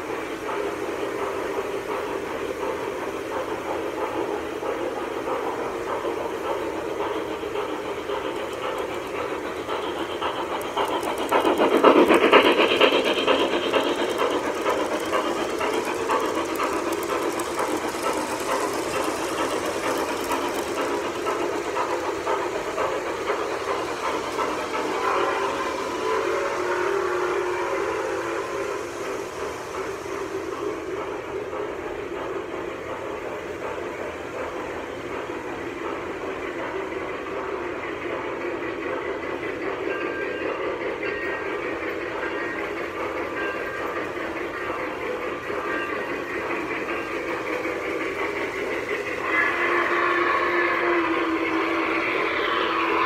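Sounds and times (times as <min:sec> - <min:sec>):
model train wheels rumbling on track: 0:00.0 - 0:53.0.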